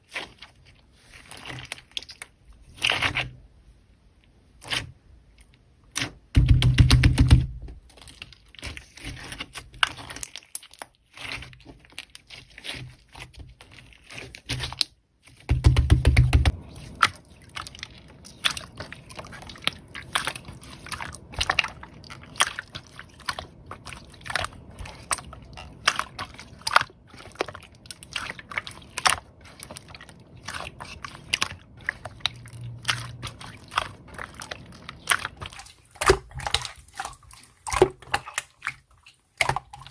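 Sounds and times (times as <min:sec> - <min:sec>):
slime squelches: 0:00.0 - 0:03.4, 0:04.5 - 0:39.9.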